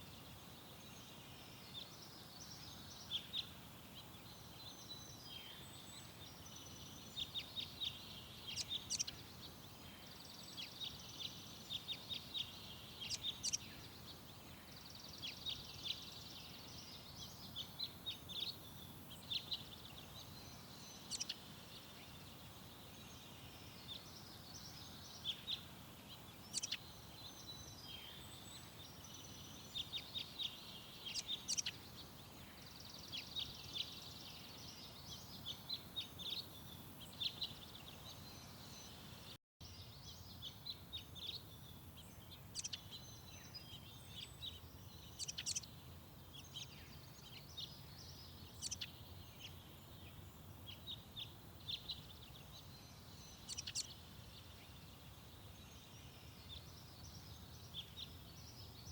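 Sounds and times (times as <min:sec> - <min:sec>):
faint background hiss: 0:00.0 - 0:58.9
songbirds chirping and calling: 0:00.0 - 0:58.9.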